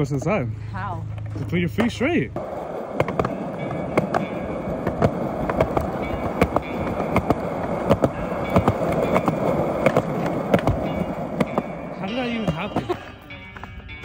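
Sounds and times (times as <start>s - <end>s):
skateboard wheels rolling on concrete: 0.0s - 14.0s
skateboard wheels clacking over joints: 1.1s - 14.0s.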